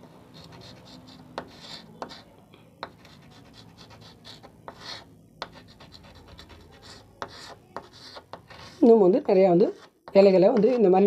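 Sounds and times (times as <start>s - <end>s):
chalk scratching on chalkboard: 0.3s - 11.0s
chalk tapping on board: 0.4s - 8.9s, 9.7s - 10.9s.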